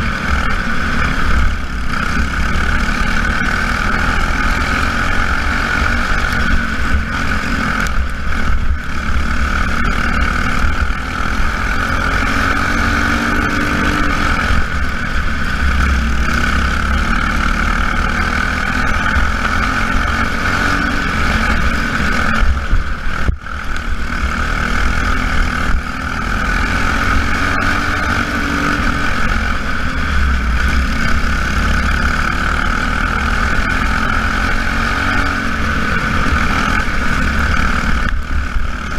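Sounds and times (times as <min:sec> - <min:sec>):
race car engines droning: 0:00.0 - 0:38.9.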